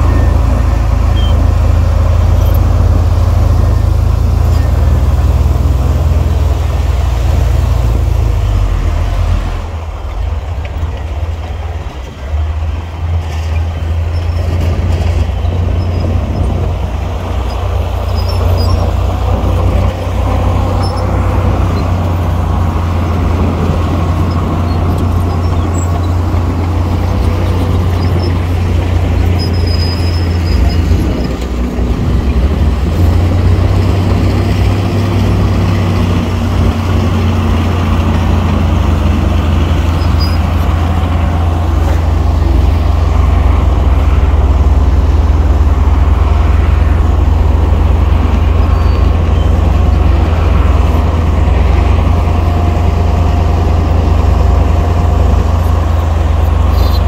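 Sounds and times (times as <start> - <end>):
heavy diesel engine rumbling: 0.0 - 57.0.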